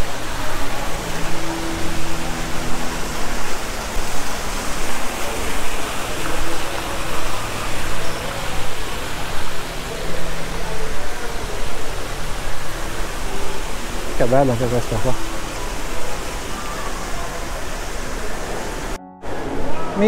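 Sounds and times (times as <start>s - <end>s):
fountain jets splashing into pool: 0.0s - 19.0s.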